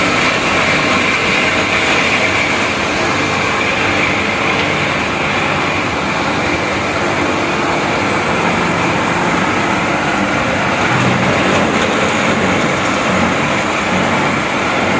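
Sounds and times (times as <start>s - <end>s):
granulator machine running: 0.0s - 14.9s.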